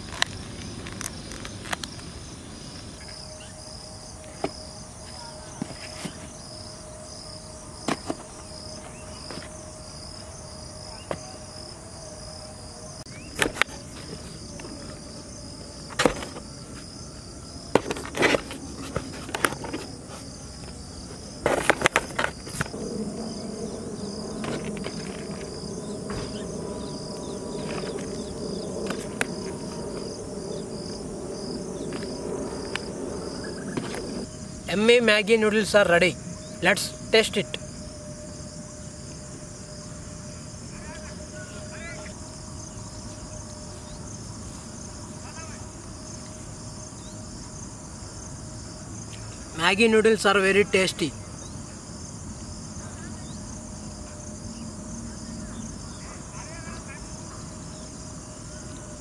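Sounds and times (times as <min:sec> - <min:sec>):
low steady hum: 0:00.0 - 0:49.5
crickets chirping: 0:00.0 - 0:59.0.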